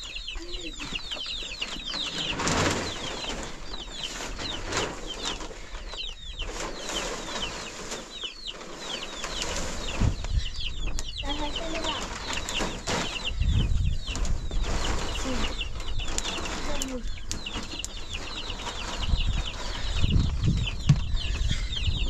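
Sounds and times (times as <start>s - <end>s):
birds chirping: 0.0s - 22.0s
rustling noise: 0.8s - 22.0s.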